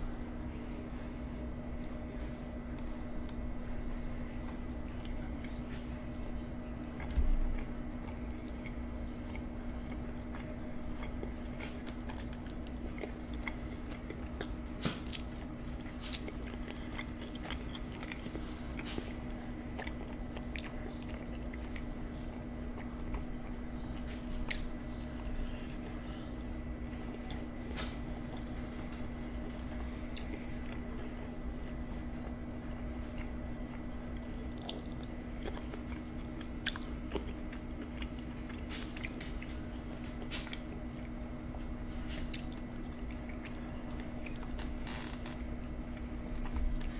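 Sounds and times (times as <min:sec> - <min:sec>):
steady low hum: 0:00.0 - 0:46.9
person chewing food: 0:01.5 - 0:46.9.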